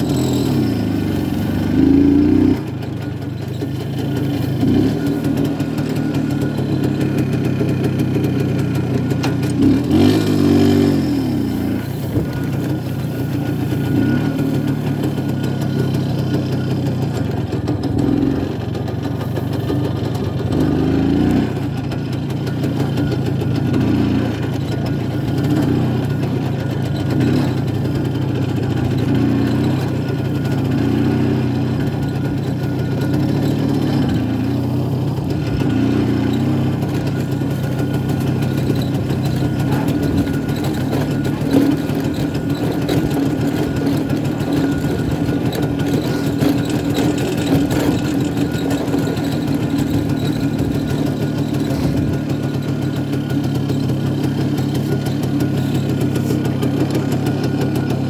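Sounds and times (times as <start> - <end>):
two-stroke motorcycle engine running: 0.0 - 58.0.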